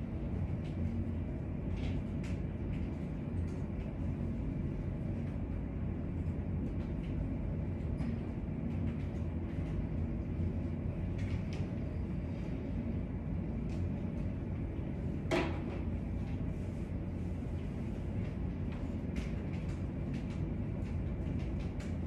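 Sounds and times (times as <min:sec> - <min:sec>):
low room rumble: 0:00.0 - 0:22.0.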